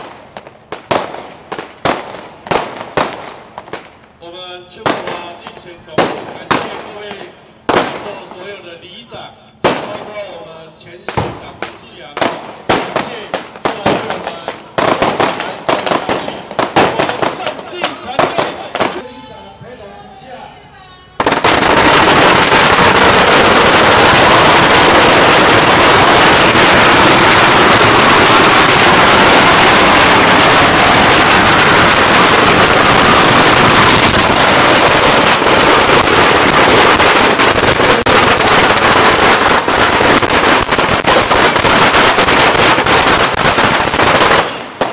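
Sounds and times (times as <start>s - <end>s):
firecrackers popping: 0.0s - 9.0s, 9.6s - 19.0s, 21.2s - 44.9s.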